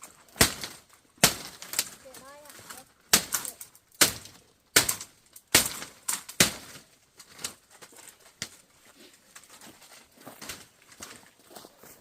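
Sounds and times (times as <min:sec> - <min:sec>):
bamboo and wood cracking: 0:00.0 - 0:12.0.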